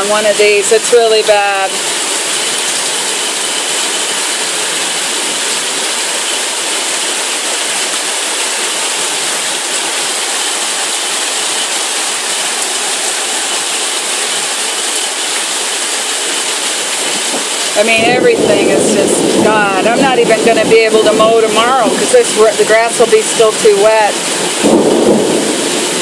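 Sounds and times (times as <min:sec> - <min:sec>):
torrential rain pouring: 0:00.0 - 0:26.0.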